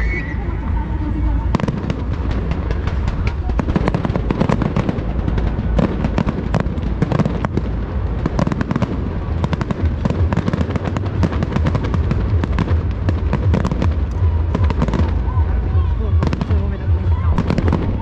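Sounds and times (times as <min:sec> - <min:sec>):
continuous low rumble: 0:00.0 - 0:18.0
fireworks bangs and pops: 0:01.5 - 0:18.0.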